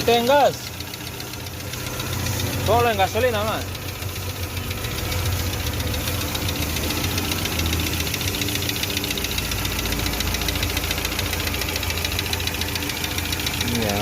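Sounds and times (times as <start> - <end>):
car engine running: 0.0 - 14.0
fast light engine ticking: 0.0 - 14.0.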